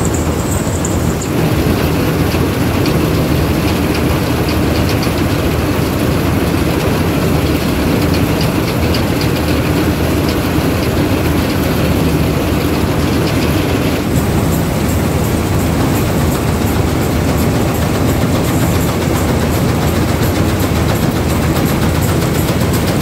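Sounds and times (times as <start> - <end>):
combine harvester engine drone: 0.0 - 23.0
machinery rattling: 0.0 - 23.0.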